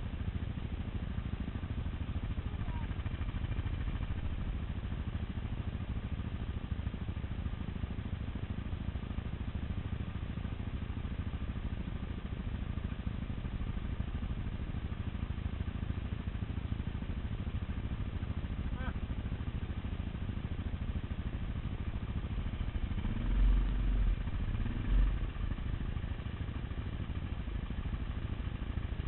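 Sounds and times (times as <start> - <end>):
quad engine rumbling: 0.0 - 29.0.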